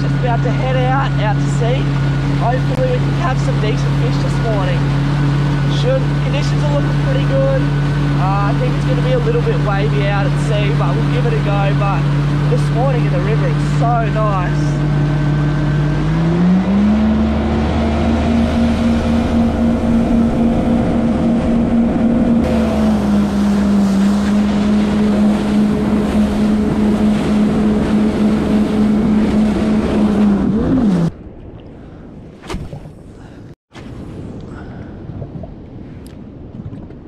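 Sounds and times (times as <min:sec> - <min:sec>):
jet ski engine running: 0:00.0 - 0:31.1
rushing water and wind: 0:00.0 - 0:37.0.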